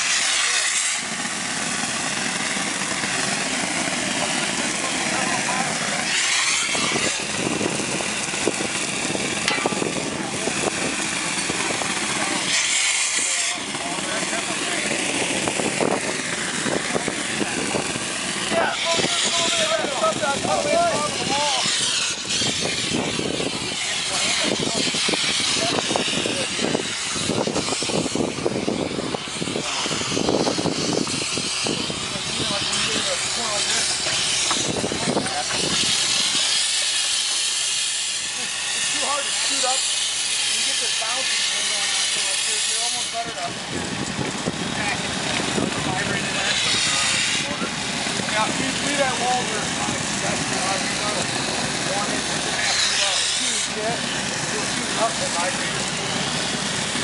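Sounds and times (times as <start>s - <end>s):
concrete spraying hiss and spatter: 0.0s - 57.0s
engine-like drone: 0.0s - 57.0s.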